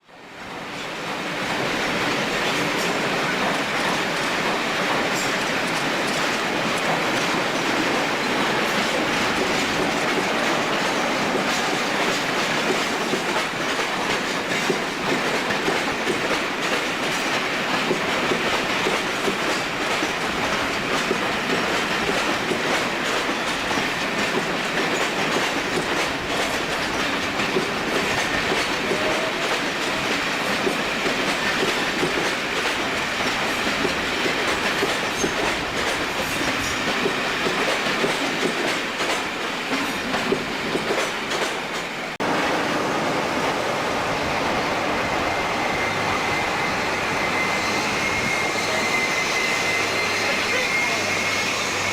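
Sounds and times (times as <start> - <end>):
train rumbling past: 0.1 - 51.9.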